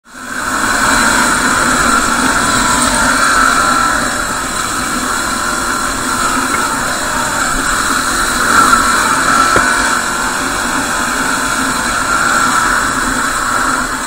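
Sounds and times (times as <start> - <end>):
motorcycle engine: 0.0 - 14.0
wind noise: 0.1 - 14.0.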